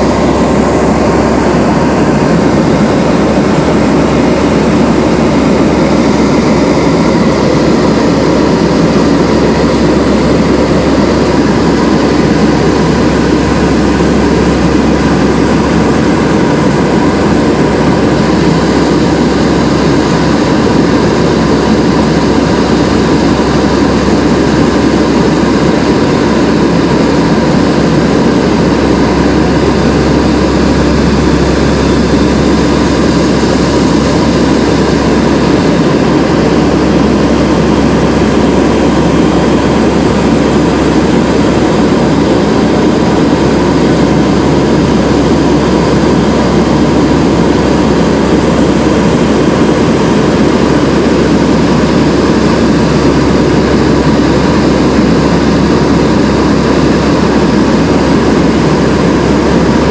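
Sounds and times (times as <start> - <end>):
faint steady whine: 0.0 - 59.9
low propeller hum: 0.0 - 59.9
turboprop engines droning: 0.0 - 59.9.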